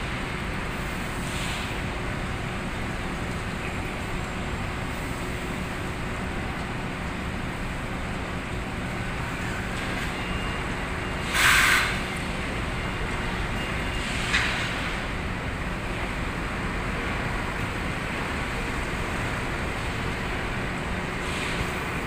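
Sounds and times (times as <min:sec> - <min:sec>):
rumble of warehouse machinery: 0:00.0 - 0:22.0.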